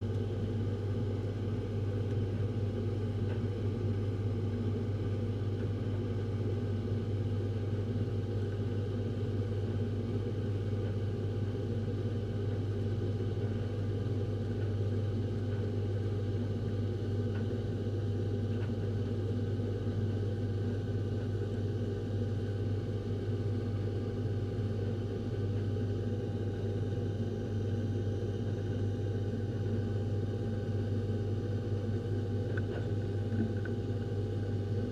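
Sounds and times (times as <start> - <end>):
refrigerator humming: 0.0 - 34.9.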